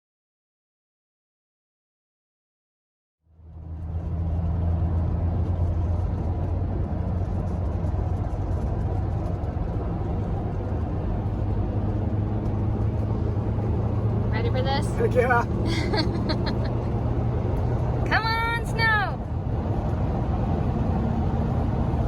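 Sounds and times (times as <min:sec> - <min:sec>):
road noise: 0:03.3 - 0:22.0
van engine droning: 0:03.3 - 0:22.0.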